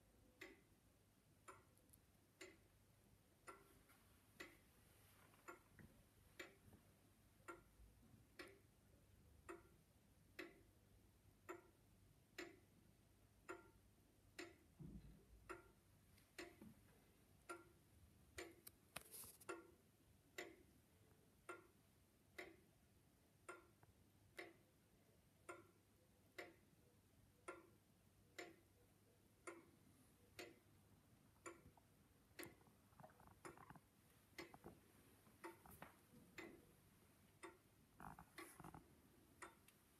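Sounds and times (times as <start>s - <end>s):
pendulum clock ticking: 0.0s - 39.9s.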